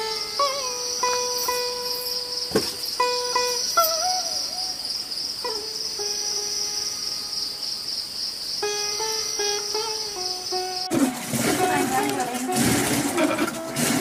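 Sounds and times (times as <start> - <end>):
plucked-string music: 0.0 - 7.8, 8.6 - 14.0
crickets chirping: 0.0 - 14.0.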